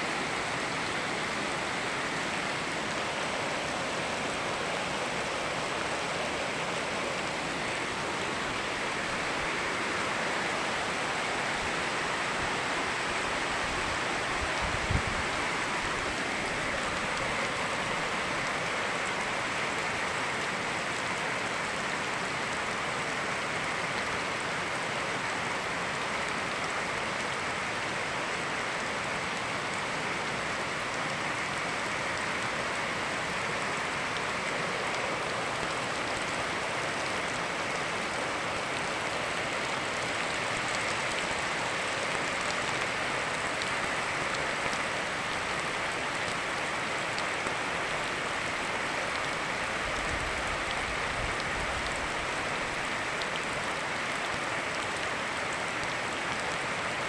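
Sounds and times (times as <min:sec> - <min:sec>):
river rushing: 0:00.0 - 0:57.0
steady rain falling: 0:00.0 - 0:57.0.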